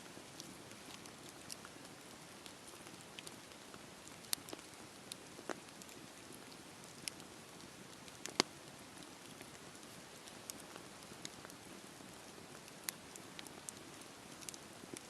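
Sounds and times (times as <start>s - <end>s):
fire crackling and popping: 0.0s - 15.0s
campfire hissing: 0.3s - 15.0s.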